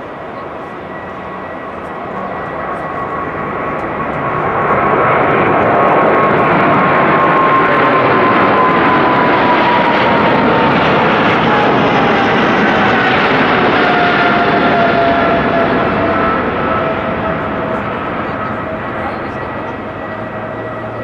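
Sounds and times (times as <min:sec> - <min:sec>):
jet engine whine: 0:00.0 - 0:21.0.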